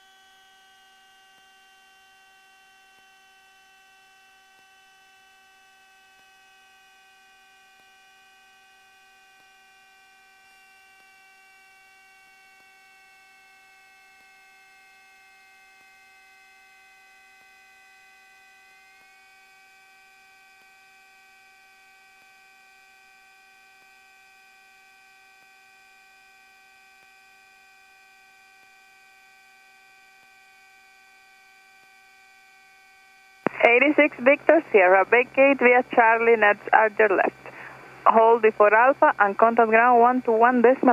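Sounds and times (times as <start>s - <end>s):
faint electrical hum and whine: 0.0s - 40.9s.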